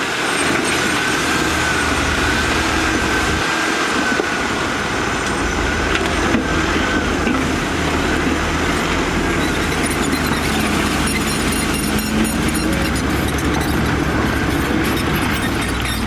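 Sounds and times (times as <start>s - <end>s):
diesel machinery engine drone: 0.0s - 16.0s.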